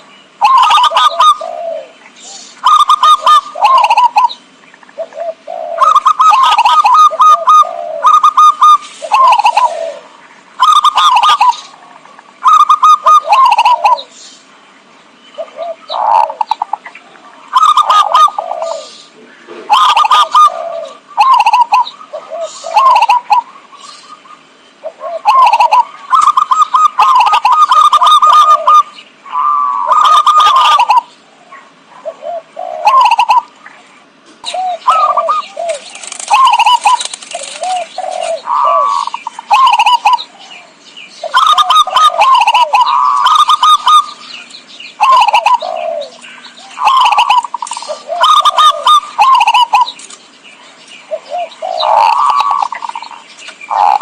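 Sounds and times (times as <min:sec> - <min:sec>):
dove cooing: 0:00.0 - 0:14.2, 0:15.4 - 0:54.0.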